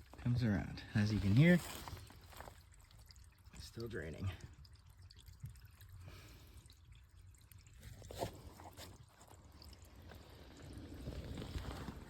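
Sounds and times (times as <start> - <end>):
water drips: 0.0 - 11.0.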